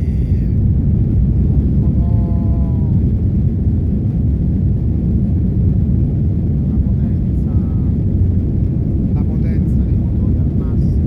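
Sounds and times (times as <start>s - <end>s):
jet engine roar in cabin: 0.0s - 11.0s.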